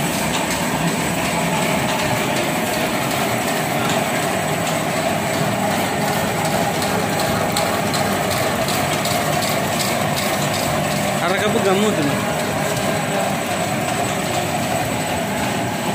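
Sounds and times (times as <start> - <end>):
lamination machine running: 0.0 - 15.9.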